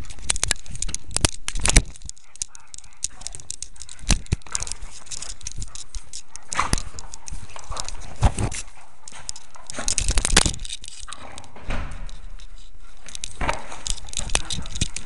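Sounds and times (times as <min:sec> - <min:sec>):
sharp clicks and scrapes: 0:00.0 - 0:15.0
steady rustle: 0:00.0 - 0:15.0.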